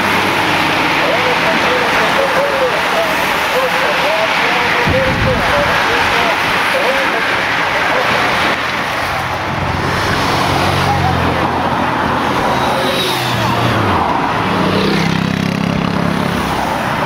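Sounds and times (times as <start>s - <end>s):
steady rush of noise: 0.0s - 17.0s
vehicle engines passing by: 0.0s - 17.0s.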